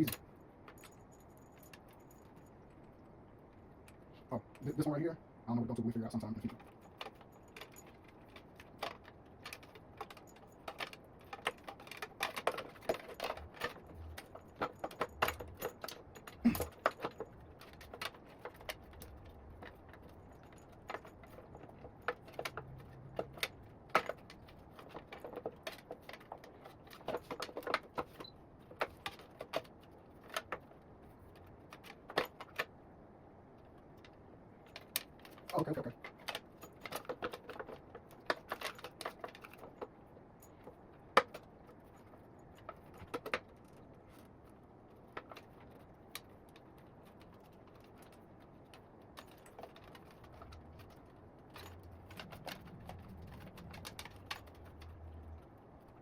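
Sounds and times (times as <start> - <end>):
clicks and rattles of parts: 0.0 - 5.1, 5.7 - 32.8, 33.6 - 56.0.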